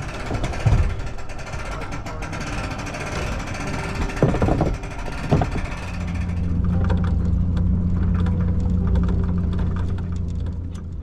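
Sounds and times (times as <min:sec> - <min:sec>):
small motor humming: 0:00.0 - 0:10.9.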